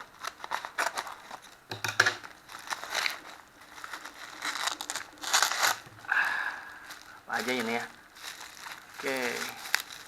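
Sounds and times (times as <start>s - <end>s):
packaging crinkling and rustling: 0.0s - 1.6s, 2.2s - 6.0s, 6.8s - 10.0s.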